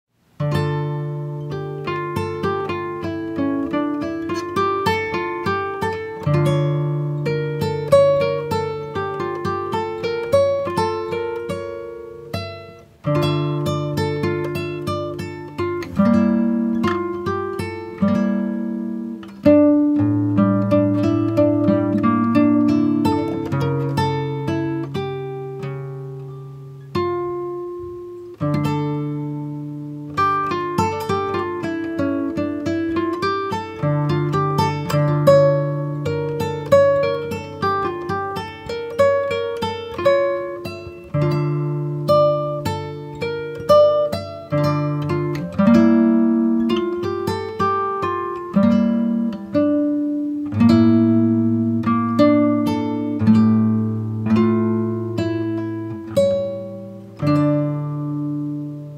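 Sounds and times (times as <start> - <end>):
acoustic guitar picking: 0.2 - 58.9
plucked string music: 0.4 - 58.9.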